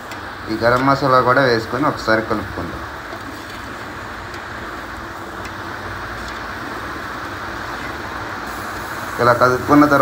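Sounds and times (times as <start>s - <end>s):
onions frying hiss: 0.0s - 10.0s.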